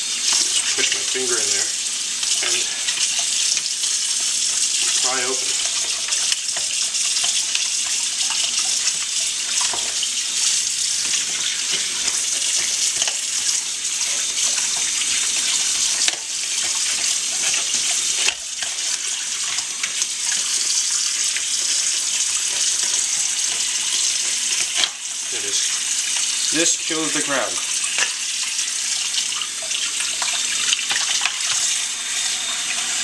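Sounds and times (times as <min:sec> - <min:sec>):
faucet water splashing in sink: 0:00.0 - 0:33.0.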